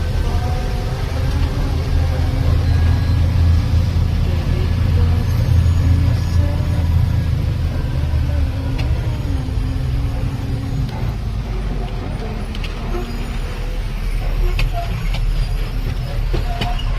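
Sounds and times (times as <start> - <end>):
road noise: 0.0 - 16.9
truck engine rumbling: 0.0 - 16.9.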